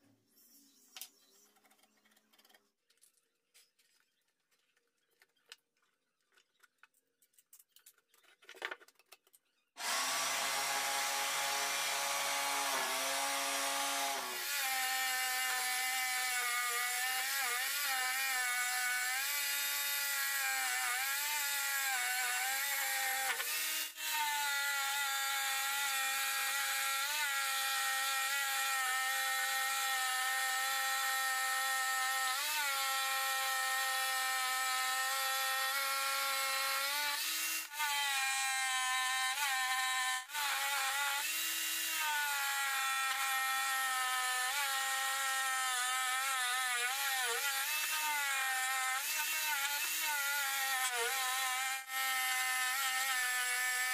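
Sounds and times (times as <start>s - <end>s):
jigsaw cutting wood: 9.8s - 53.9s.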